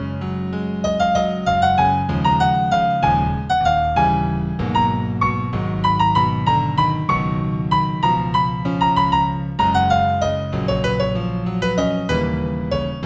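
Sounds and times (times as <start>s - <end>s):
new-age piano music: 0.0s - 13.0s.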